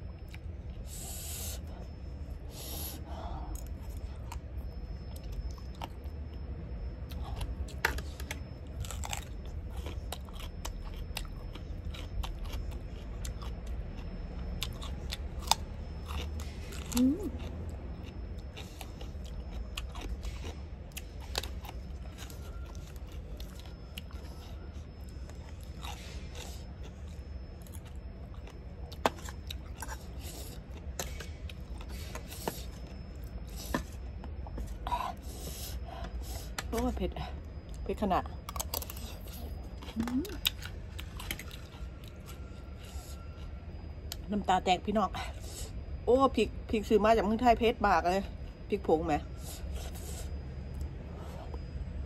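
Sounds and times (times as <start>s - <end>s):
wet chewing with crunches: 0.0s - 44.4s, 49.2s - 52.0s.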